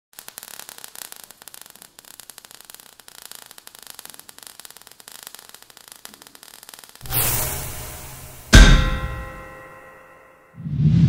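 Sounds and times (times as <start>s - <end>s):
hiss: 0.1s - 9.4s
crackling sparks: 0.1s - 10.2s.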